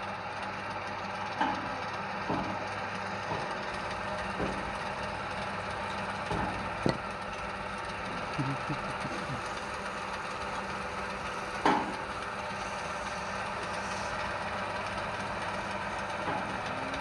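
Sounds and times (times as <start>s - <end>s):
wood lathe running: 0.0s - 17.0s.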